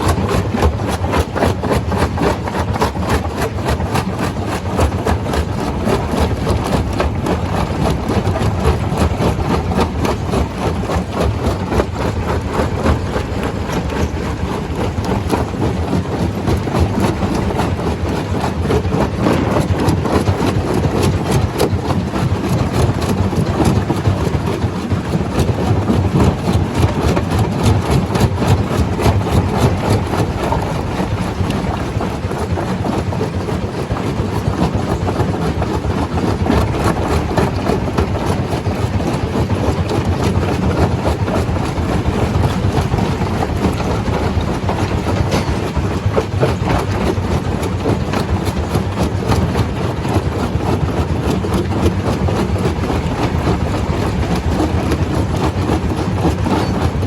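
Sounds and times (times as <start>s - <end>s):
stone crusher crushing rock: 0.0s - 57.0s.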